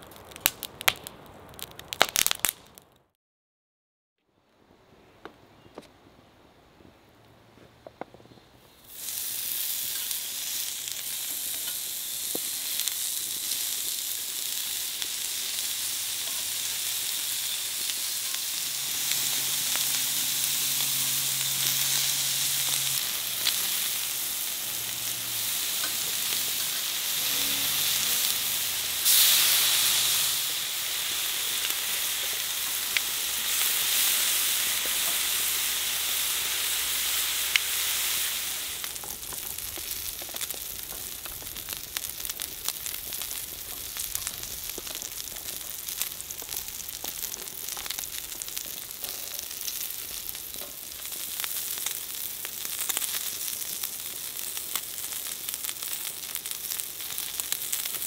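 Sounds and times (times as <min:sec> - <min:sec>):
meat sizzling on a grill plate: 0:08.8 - 0:58.0.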